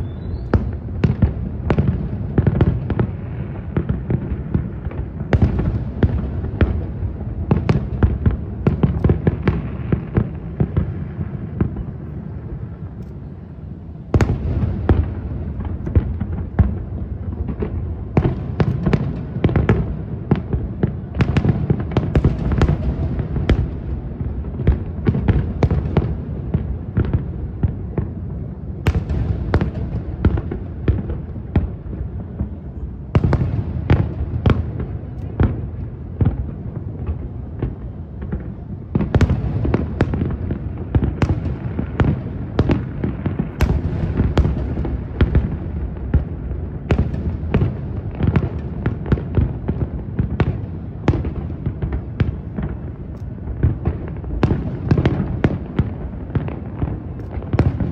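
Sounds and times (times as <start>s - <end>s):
continuous low rumble: 0.0s - 57.9s
fireworks bursts and crackling: 0.0s - 57.9s.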